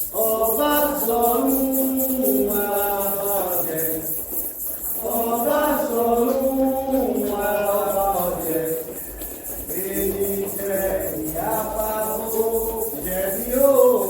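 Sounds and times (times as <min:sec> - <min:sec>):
quick percussion pulse: 0:00.0 - 0:14.0
voices chanting in song: 0:00.0 - 0:14.0.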